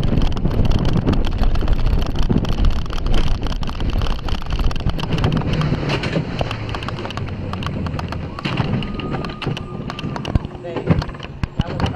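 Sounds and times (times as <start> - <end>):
sled rumbling on track: 0.0 - 11.9
wind buffeting microphone: 0.0 - 11.9.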